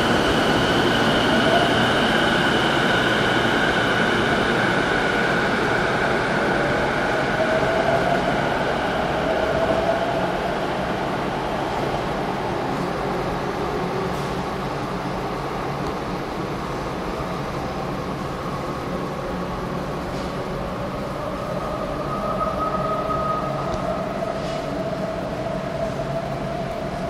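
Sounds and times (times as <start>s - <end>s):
subway train rumbling in tunnel: 0.0s - 27.0s.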